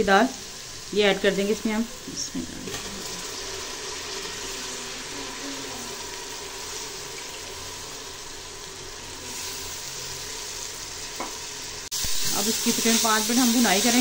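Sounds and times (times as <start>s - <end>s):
oil sizzling in a pot: 0.0s - 14.0s.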